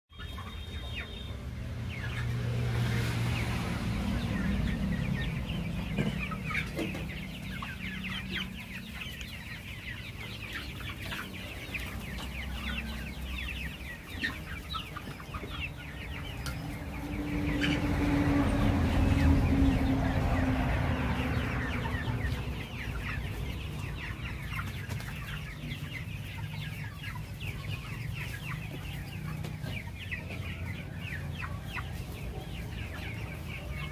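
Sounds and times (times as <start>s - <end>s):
chickens chirping and clucking: 0.1s - 33.9s.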